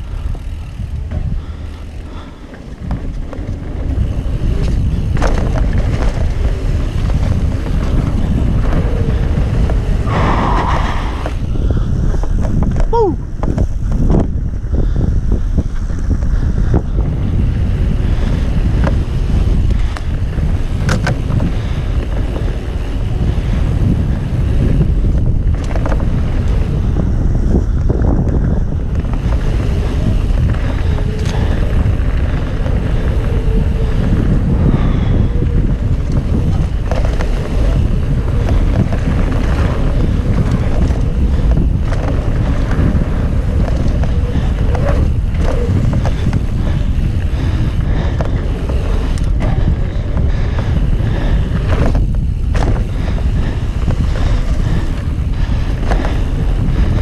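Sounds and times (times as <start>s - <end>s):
bike clicks and rattles: 0.0s - 57.0s
bike tyres rolling on dirt: 0.0s - 57.0s
wind buffeting microphone: 0.0s - 57.0s.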